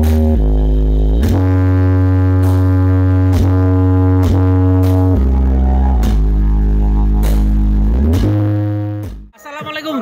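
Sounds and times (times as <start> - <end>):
bass-heavy music on subwoofers: 0.0 - 10.0.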